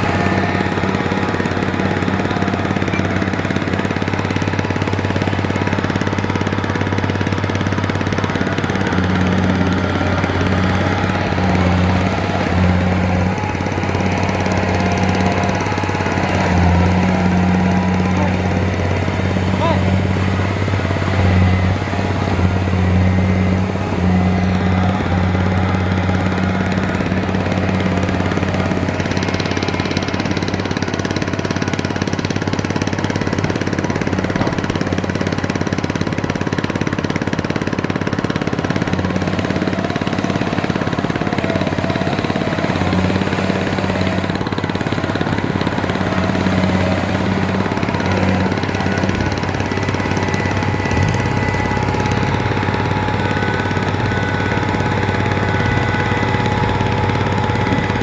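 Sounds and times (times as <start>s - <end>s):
diesel engine running with knock: 0.0s - 58.0s.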